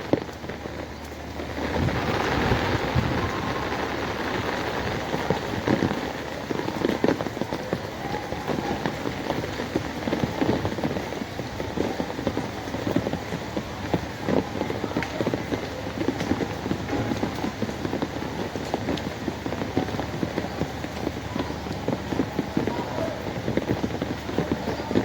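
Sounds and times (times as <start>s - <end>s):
rain on hard surfaces: 0.0s - 25.0s.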